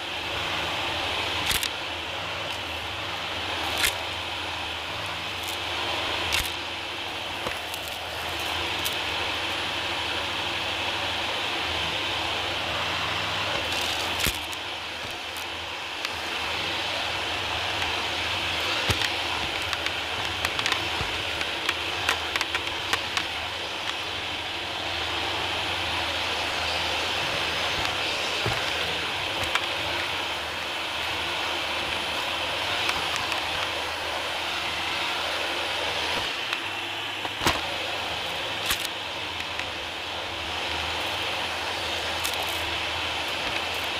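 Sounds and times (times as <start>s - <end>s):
vacuum cleaner motor whine: 0.0s - 43.9s.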